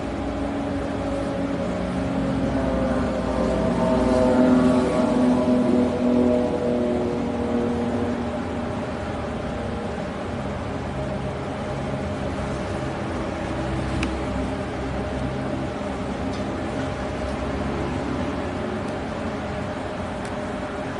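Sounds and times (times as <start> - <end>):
droning low hum: 0.0 - 20.9.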